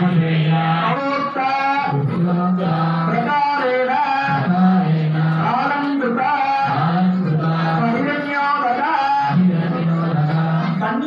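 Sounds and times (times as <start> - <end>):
man singing devotional melody: 0.0 - 11.0.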